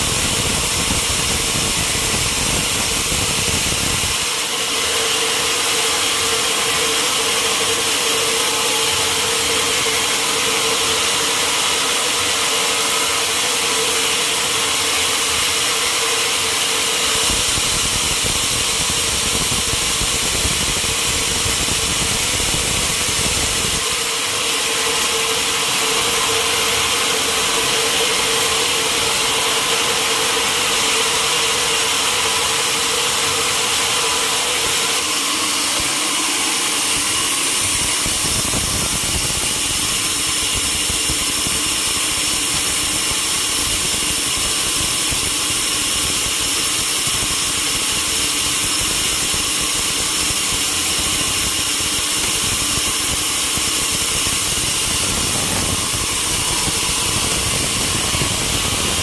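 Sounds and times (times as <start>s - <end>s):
sawmill cutting a log: 0.0s - 59.0s.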